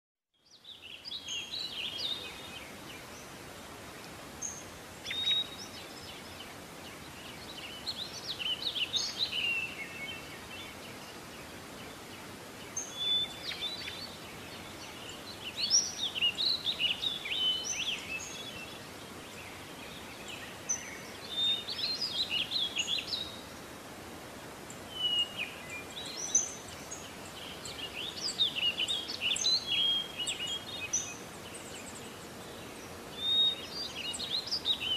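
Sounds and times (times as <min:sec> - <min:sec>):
small birds singing and chirping: 0:00.3 - 0:34.9
background hiss: 0:00.4 - 0:34.9.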